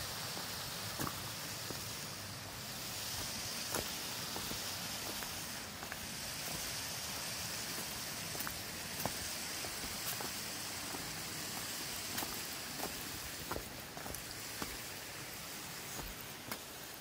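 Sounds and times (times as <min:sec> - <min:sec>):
rushing outdoor hiss: 0:00.0 - 0:17.0.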